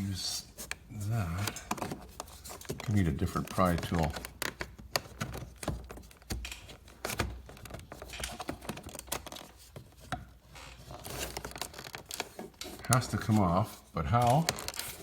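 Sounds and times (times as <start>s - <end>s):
plastic trim being handled: 0.3s - 15.0s.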